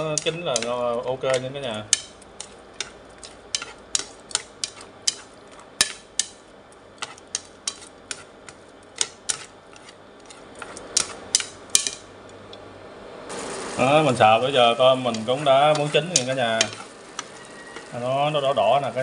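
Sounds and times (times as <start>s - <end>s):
chopsticks clicking against frying pan: 0.0s - 12.6s, 15.0s - 17.9s.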